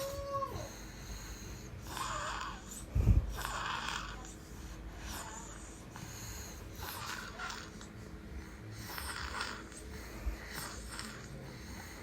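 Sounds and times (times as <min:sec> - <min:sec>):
baby snoring: 0:00.0 - 0:07.9, 0:08.5 - 0:12.0.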